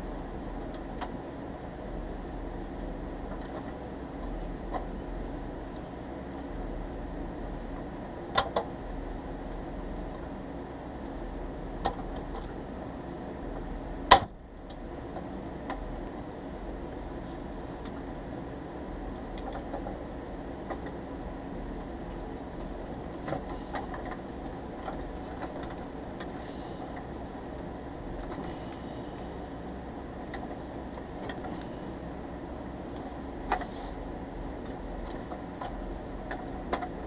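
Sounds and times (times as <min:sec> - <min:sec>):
background hum: 0:00.0 - 0:37.0.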